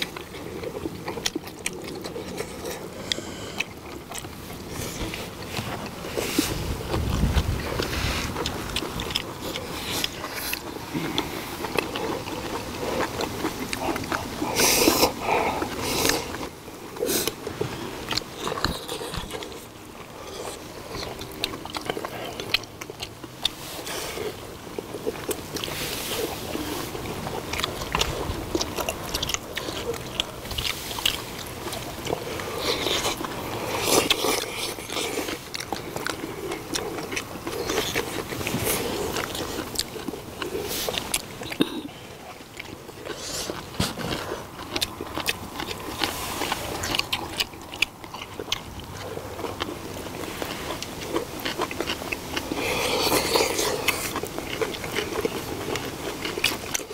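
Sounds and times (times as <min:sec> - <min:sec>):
chewing and slurping: 0:00.0 - 0:56.9.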